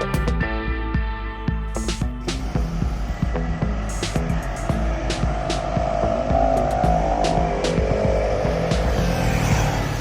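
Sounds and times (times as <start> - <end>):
background music: 0.0 - 10.0
heavy truck engine running: 1.5 - 10.0.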